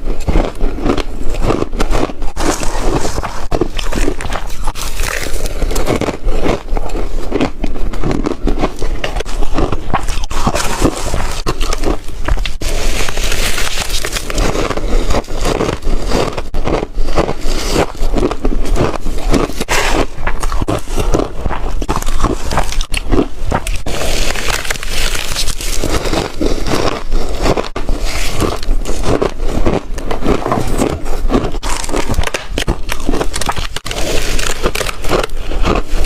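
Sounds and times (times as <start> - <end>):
crunching of ice: 0.0 - 36.0.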